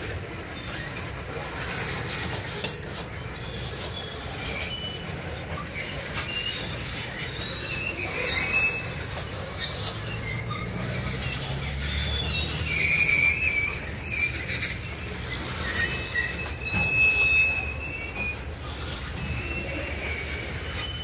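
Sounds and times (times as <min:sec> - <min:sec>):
freight train rolling past: 0:00.0 - 0:21.0
steel wheels rumbling on rails: 0:00.0 - 0:21.0
high-pitched wheel squeal: 0:00.5 - 0:21.0.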